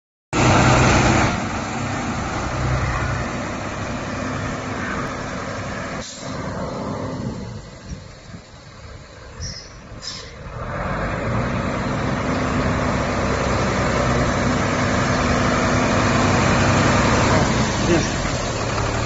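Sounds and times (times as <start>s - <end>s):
diesel truck driving off: 0.3s - 19.0s.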